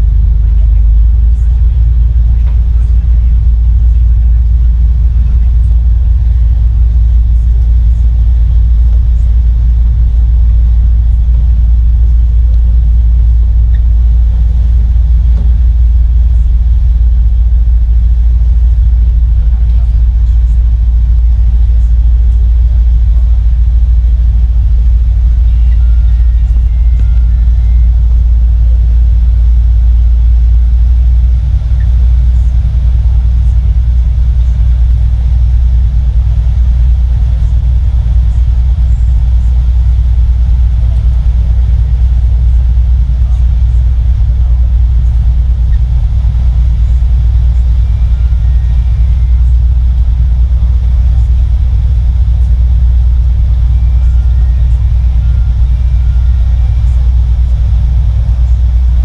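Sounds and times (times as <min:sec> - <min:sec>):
boat wake: 0:00.0 - 0:58.9
deep ship engine rumble: 0:00.0 - 0:59.0.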